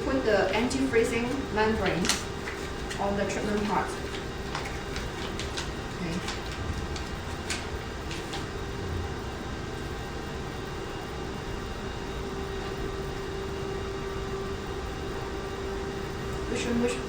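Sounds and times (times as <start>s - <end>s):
machine hum and fan noise: 0.0s - 17.0s.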